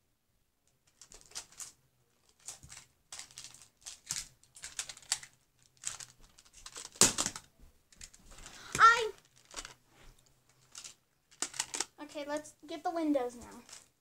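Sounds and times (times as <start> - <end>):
plastic tiles clicking and clattering: 0.8 - 9.8, 10.5 - 12.5, 13.3 - 14.0.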